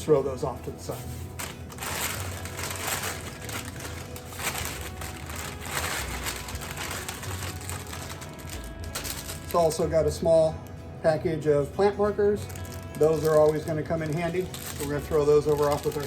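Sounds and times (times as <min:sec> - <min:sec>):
packaging crinkling: 0:00.9 - 0:10.8, 0:12.3 - 0:16.0.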